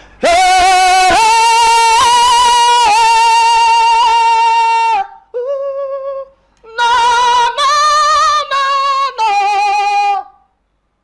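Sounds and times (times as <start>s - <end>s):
man singing a cappella: 0.0s - 10.5s.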